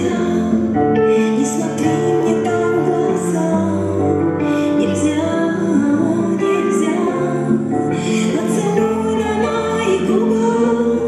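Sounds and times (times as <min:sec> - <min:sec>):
slow song with female vocals: 0:00.0 - 0:11.0.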